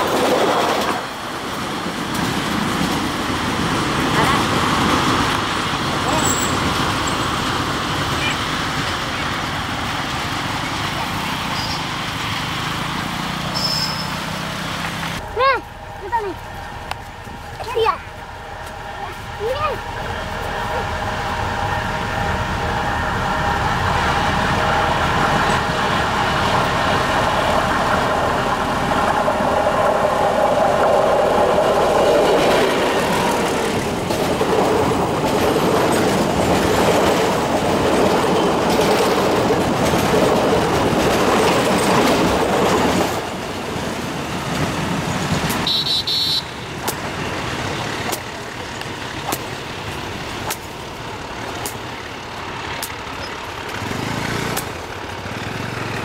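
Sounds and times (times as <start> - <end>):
wheels clicking over rail joints: 0.0 - 19.8, 24.8 - 45.8, 46.7 - 56.0
locomotive engine: 0.0 - 56.0
train wheels on rails: 0.0 - 56.0.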